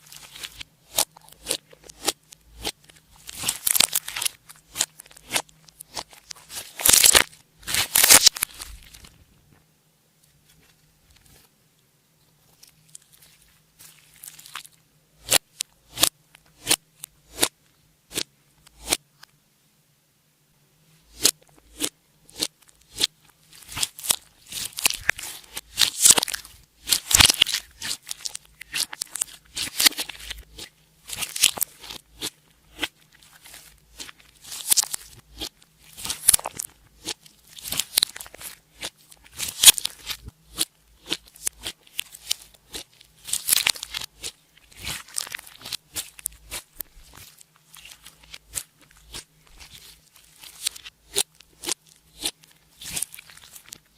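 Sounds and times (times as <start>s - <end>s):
slime crackling and popping: 0.0s - 9.1s, 12.6s - 17.5s, 21.1s - 53.9s.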